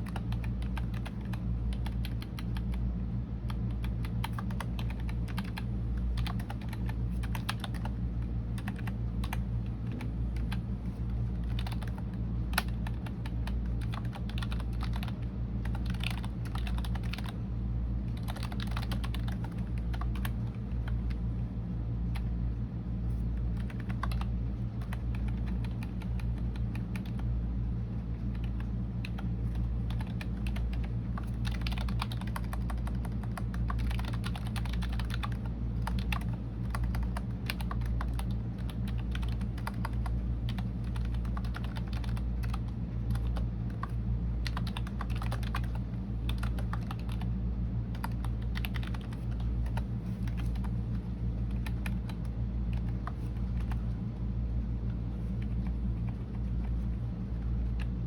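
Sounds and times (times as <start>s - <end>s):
typing on keyboard: 0.0s - 2.8s, 3.4s - 10.6s, 11.4s - 17.4s, 18.1s - 21.2s, 23.4s - 27.3s, 28.2s - 47.3s, 47.9s - 54.0s
steady low hum: 0.0s - 58.0s.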